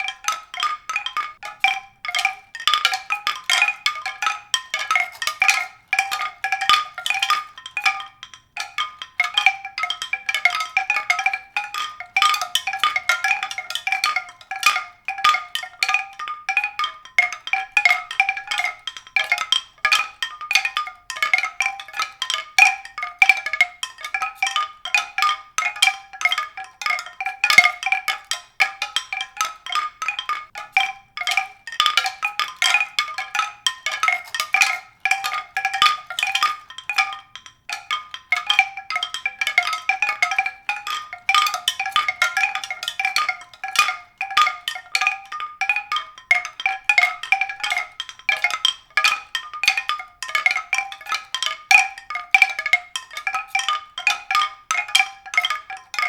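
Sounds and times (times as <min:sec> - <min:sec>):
tuned percussion notes: 0:00.0 - 0:56.0.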